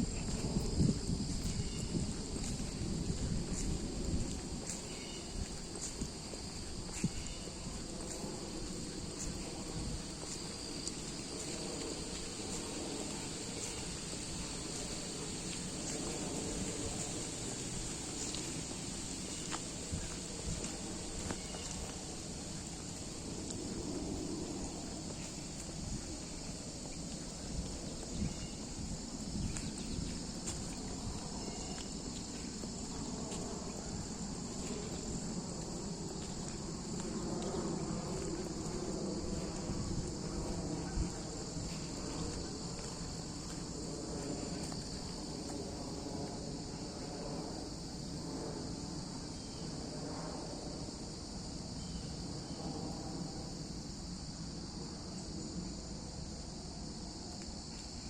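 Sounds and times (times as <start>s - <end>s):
footsteps rustling on trail: 0.0s - 47.0s
crickets trilling: 0.0s - 58.0s.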